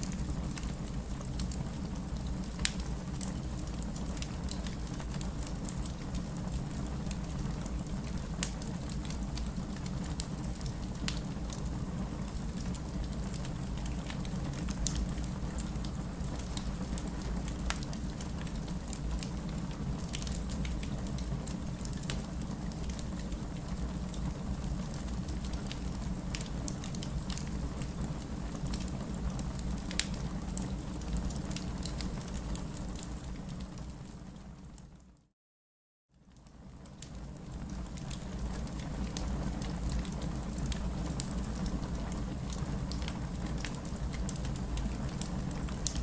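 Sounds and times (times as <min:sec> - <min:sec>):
fire crackling and popping: 0:00.0 - 0:34.8, 0:36.4 - 0:46.0
low rumble of flames: 0:00.0 - 0:35.2, 0:36.2 - 0:46.0.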